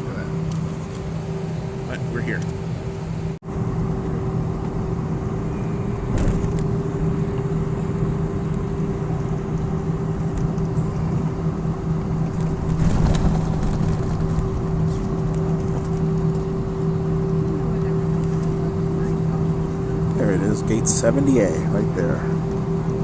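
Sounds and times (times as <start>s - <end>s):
jet engines idling rush: 0.0s - 23.0s
hum tones: 1.1s - 23.0s.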